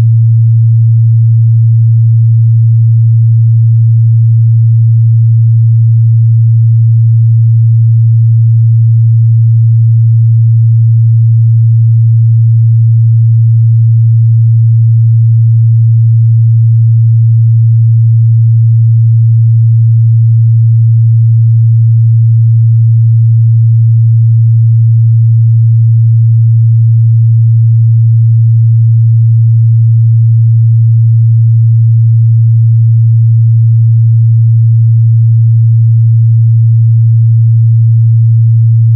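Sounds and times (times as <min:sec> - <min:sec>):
low sine-wave test tone: 0:00.0 - 0:38.9.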